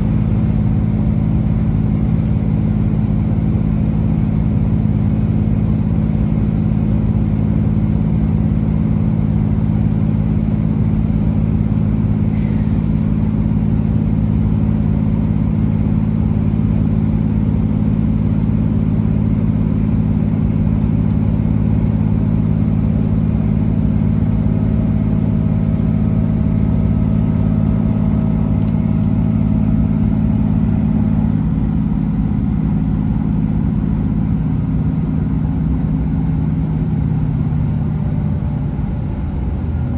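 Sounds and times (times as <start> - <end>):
diesel train engine droning: 0.0 - 39.9.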